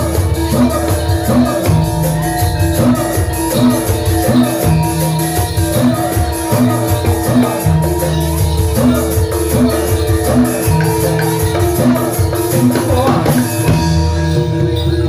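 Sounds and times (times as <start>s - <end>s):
drum and percussion ensemble: 0.0s - 15.0s.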